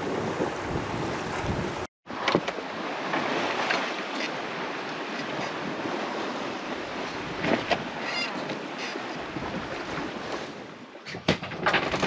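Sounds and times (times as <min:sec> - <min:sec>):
water splashing along hull: 0:00.0 - 0:12.0
wind noise on microphone: 0:00.0 - 0:12.0.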